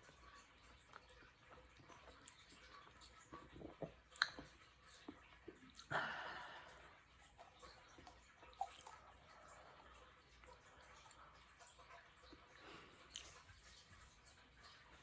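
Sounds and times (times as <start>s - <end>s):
wet mouth clicks and chewing: 0.0s - 6.0s, 7.2s - 15.0s.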